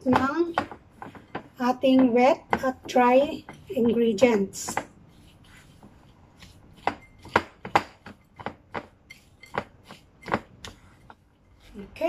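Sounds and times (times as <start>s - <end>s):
utensil scraping glass bowl: 0.0s - 12.0s.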